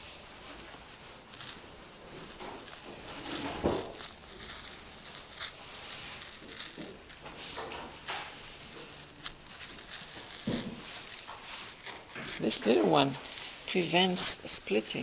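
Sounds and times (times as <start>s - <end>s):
faint room noise: 0.0s - 15.0s
hands working woodblock tools: 2.3s - 14.6s.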